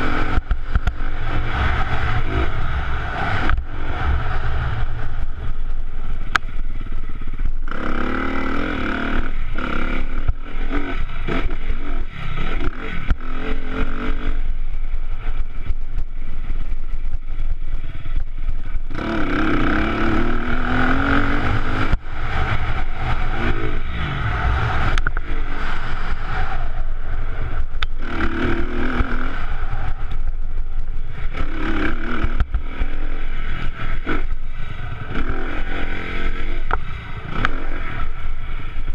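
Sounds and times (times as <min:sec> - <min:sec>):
dirt bike engine revving: 0:00.0 - 0:16.6, 0:17.3 - 0:38.9
wind rumble on microphone: 0:00.0 - 0:38.9.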